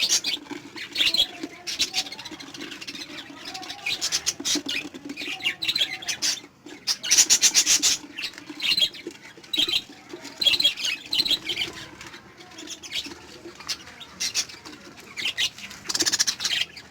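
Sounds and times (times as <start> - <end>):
parrots chirping and squawking: 0.0 - 16.9.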